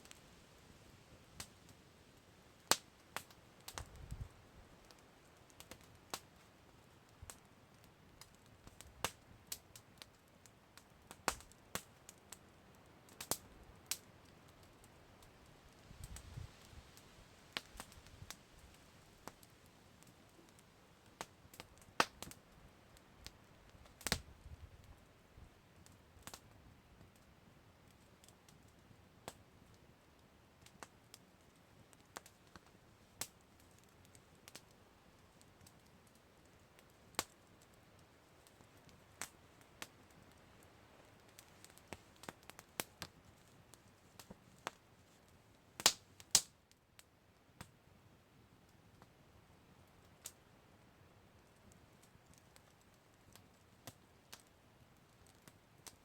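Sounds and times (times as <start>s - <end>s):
campfire crackling and popping: 0.0s - 56.0s
faint fire hiss: 0.0s - 56.0s.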